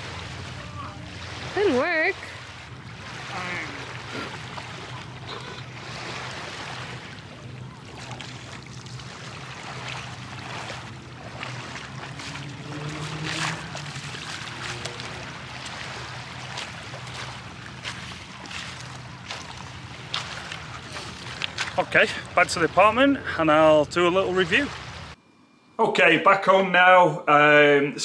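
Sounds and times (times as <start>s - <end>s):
water lapping and splashing: 0.0s - 25.2s
low steady hum: 0.0s - 28.0s.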